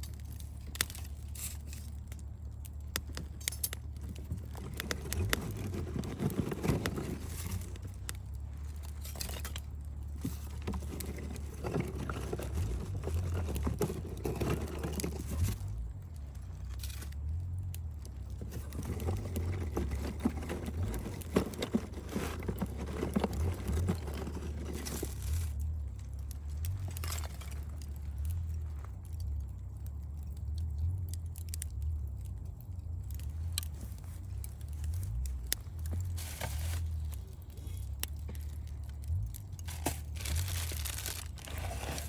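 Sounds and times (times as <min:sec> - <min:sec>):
campfire crackling and popping: 0:00.0 - 0:42.0
low rumble: 0:00.0 - 0:42.0.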